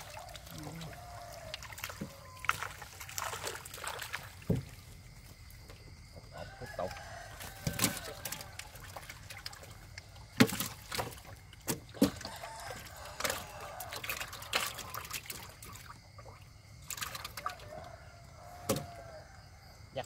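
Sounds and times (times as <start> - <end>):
water splashing and dripping: 0.0 - 19.3.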